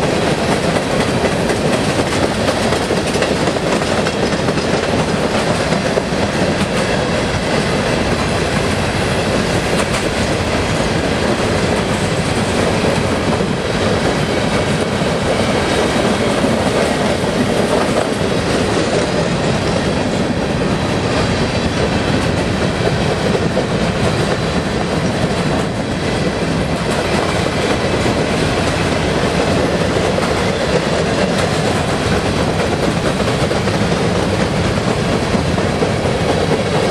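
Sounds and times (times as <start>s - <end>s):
freight train rolling past: 0.0s - 36.9s.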